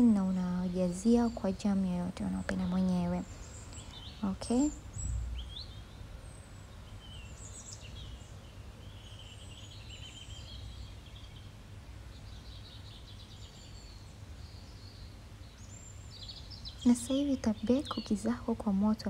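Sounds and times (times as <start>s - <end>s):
low steady hum: 0.0s - 19.0s
small birds chirping and trilling: 0.0s - 19.0s.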